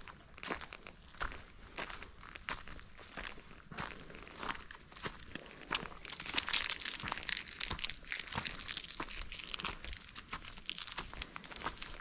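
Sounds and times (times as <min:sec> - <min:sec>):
footsteps crunching on trail: 0:00.0 - 0:12.0.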